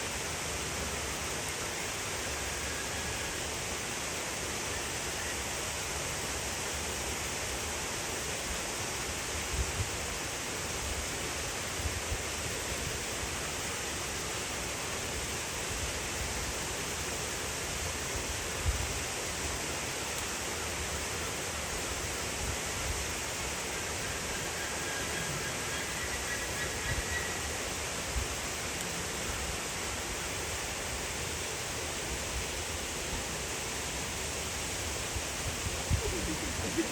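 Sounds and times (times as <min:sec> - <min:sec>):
running water rushing: 0:00.0 - 0:36.9.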